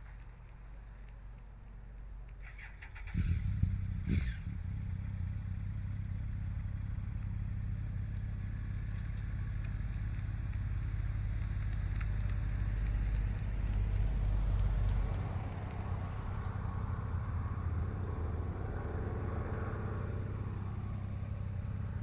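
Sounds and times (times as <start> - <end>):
distant propeller plane engines droning: 0.0 - 22.0.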